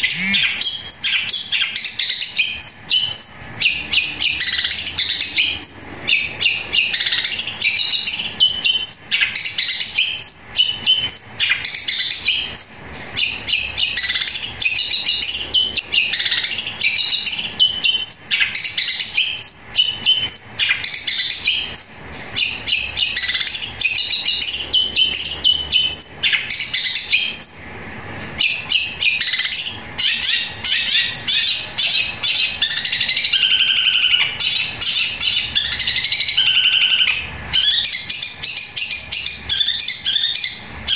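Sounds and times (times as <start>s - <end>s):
bird singing rapid chirps: 0.0s - 27.8s, 28.4s - 40.9s.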